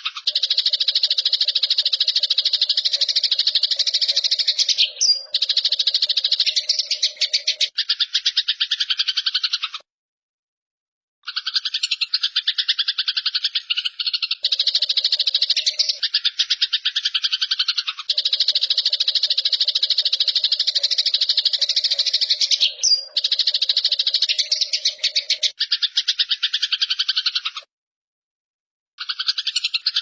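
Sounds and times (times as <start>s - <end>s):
sparrows chattering calls: 0.0s - 9.8s, 11.2s - 27.7s, 29.0s - 30.0s.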